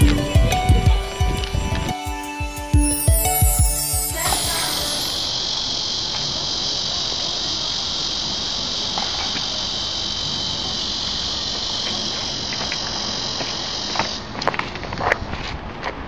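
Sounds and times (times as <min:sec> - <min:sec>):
cicada chorus buzzing: 0:00.0 - 0:14.6.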